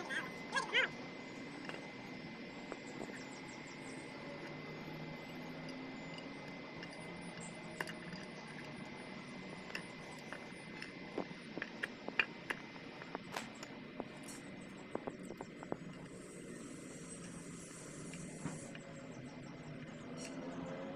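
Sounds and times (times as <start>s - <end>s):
faint high whine: 0.0s - 20.9s.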